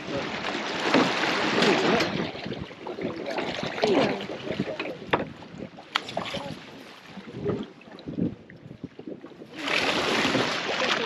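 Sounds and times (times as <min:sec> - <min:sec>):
water splashing against boat: 0:00.0 - 0:11.0
wind on microphone: 0:00.0 - 0:11.0.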